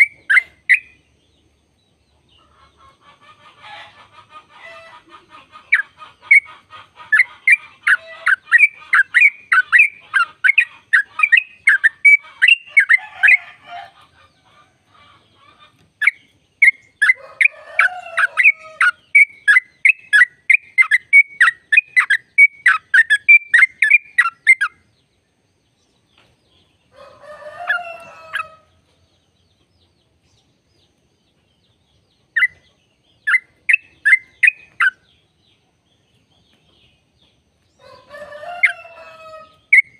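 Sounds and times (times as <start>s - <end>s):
bird rapid chirping song: 0.0s - 27.0s, 27.6s - 39.9s.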